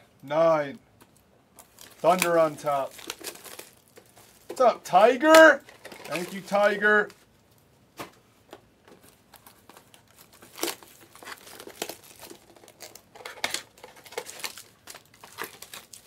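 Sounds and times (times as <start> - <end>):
plastic wrapping crinkling: 1.1 - 7.6, 8.8 - 16.0.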